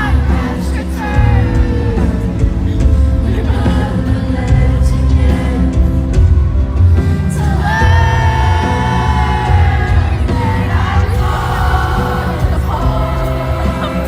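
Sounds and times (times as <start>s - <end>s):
band with deep bass: 0.0s - 14.0s
woman singing pop ballad: 0.0s - 14.0s.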